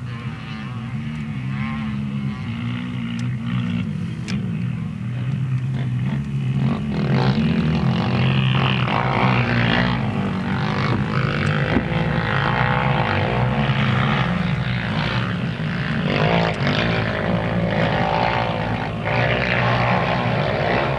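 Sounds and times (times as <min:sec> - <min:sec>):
quad engines running hard: 0:00.0 - 0:20.9.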